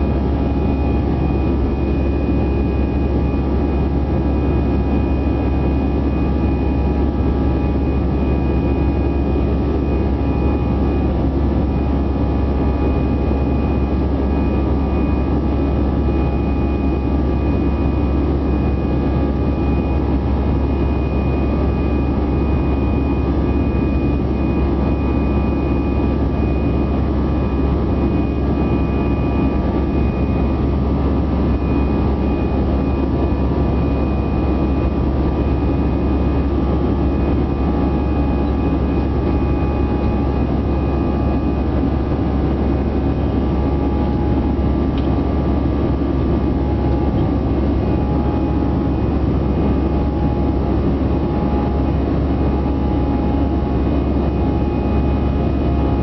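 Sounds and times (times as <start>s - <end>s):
faint steady whine: 0.0s - 56.0s
jet engine and airflow noise: 0.0s - 56.0s.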